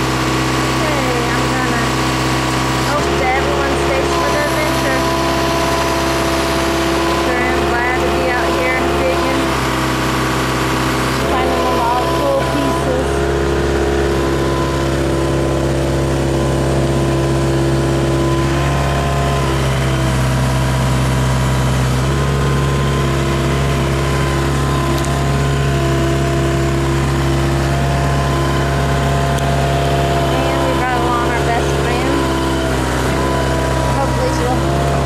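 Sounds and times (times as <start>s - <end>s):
backhoe engine running: 0.0s - 35.0s.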